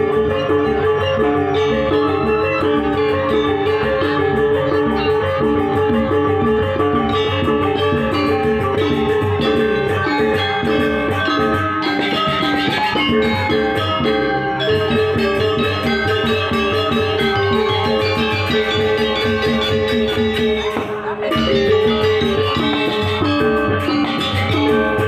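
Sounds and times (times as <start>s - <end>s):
gamelan music: 0.0s - 25.0s.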